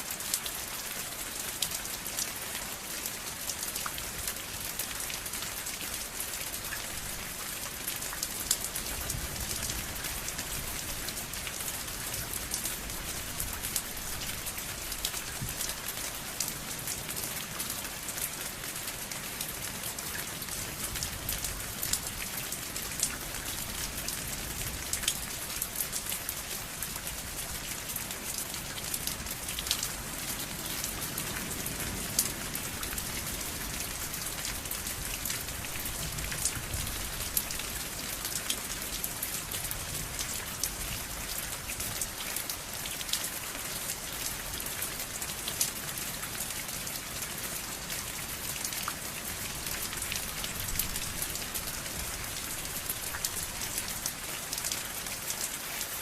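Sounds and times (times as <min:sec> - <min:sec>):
rain pattering on hard surface: 0:00.0 - 0:56.0.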